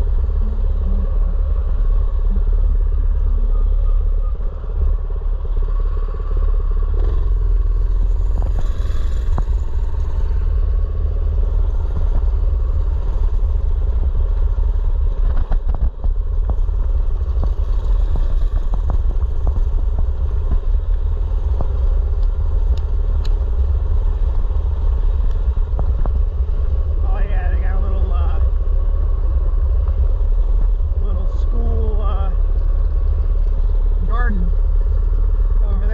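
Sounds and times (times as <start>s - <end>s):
heavy low rumble: 0.0s - 35.9s.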